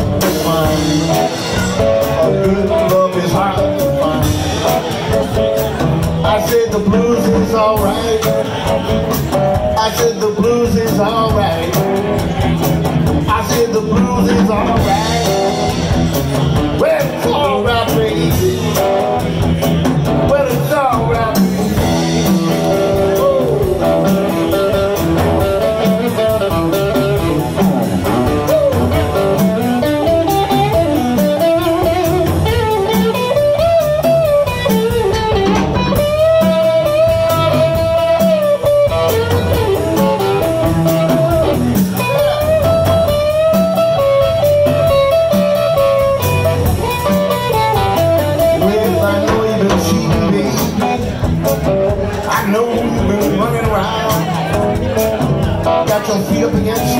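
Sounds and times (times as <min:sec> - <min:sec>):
drum kit: 0:00.0 - 0:56.9
electric guitar bending notes: 0:00.0 - 0:56.9
upright double bass: 0:00.0 - 0:56.9.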